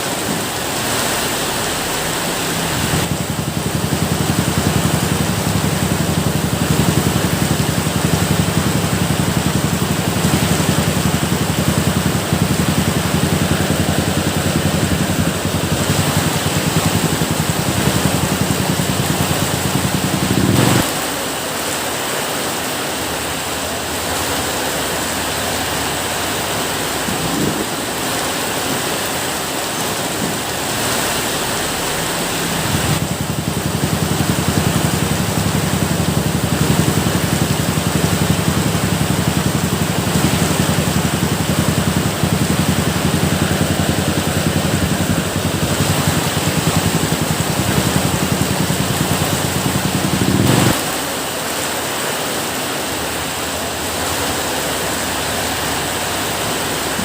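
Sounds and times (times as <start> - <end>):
rain hissing: 0.0 - 22.6, 23.6 - 52.0.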